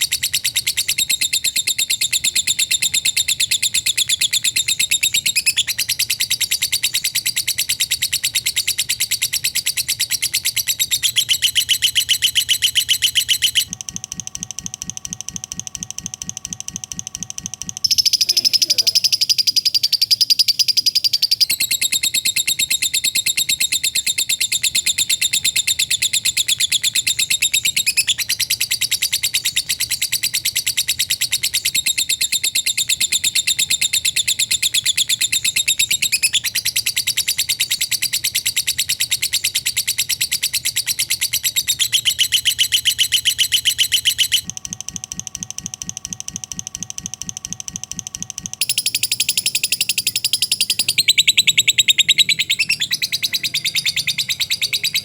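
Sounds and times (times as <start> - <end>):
lovebird high-pitched chattering trill: 0.0 - 13.8, 14.5 - 44.6, 45.6 - 55.0.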